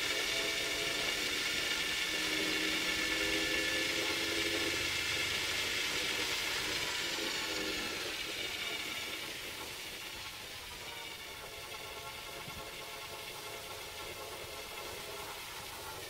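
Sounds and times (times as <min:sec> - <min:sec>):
tape mechanism whirring: 0:00.0 - 0:16.0.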